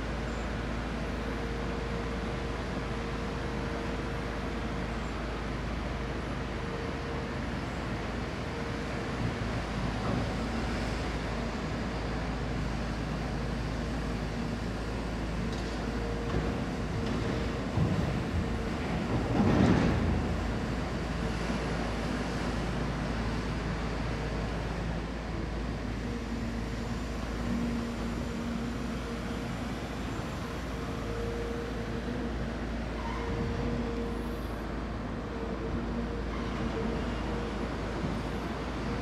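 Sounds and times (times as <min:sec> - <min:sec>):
diesel machinery engine drone: 0:00.0 - 0:39.0.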